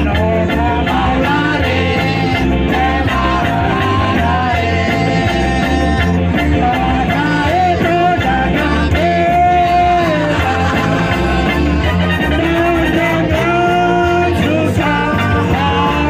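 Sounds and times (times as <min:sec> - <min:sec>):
loud dance music: 0:00.0 - 0:16.0
person singing: 0:00.0 - 0:16.0
steady bass beat: 0:00.0 - 0:16.0.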